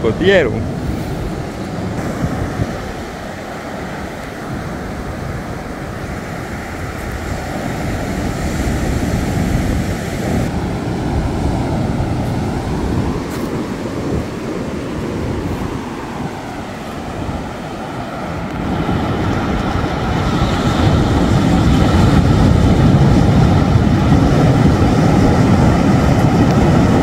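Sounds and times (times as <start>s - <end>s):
surf breaking on a beach: 0.0s - 27.0s
wind buffeting the microphone: 0.0s - 27.0s.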